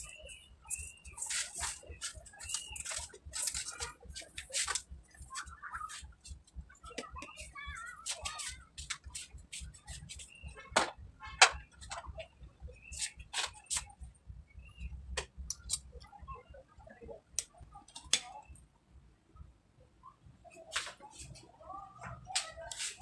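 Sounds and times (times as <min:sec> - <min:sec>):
faint voices: 0:00.0 - 0:18.8, 0:19.4 - 0:23.0.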